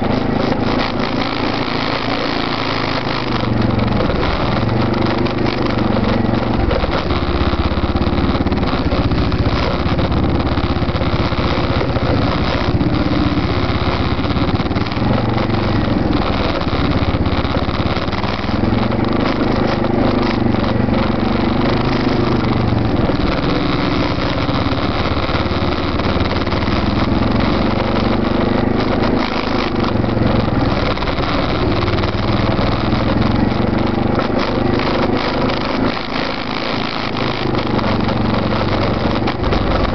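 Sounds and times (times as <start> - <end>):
atv engines running: 0.0 - 39.9.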